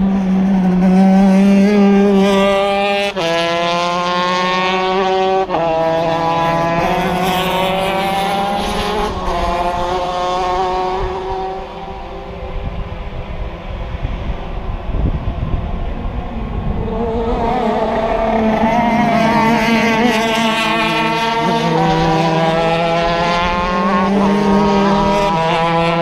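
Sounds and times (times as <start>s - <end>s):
two-stroke kart engine revving: 0.0s - 12.3s, 16.4s - 26.0s.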